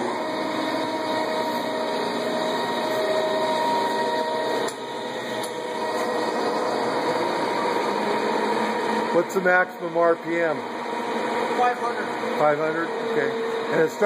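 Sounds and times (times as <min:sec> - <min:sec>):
lathe motor humming and whining: 0:00.0 - 0:14.0.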